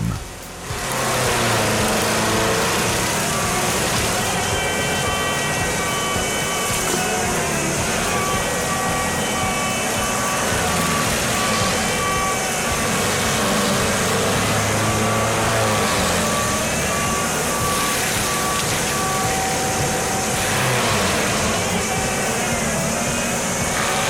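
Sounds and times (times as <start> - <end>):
heavy machine engine running: 0.0 - 24.0
reversing alarm beeping: 0.0 - 24.0.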